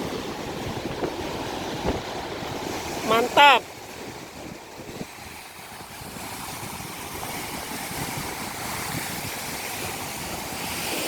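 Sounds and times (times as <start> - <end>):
ocean surf rushing on beach: 0.0 - 11.0.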